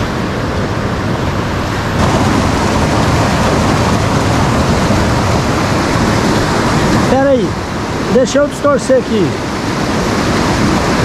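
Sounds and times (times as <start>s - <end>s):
river rapids rushing over rocks: 0.0s - 11.0s.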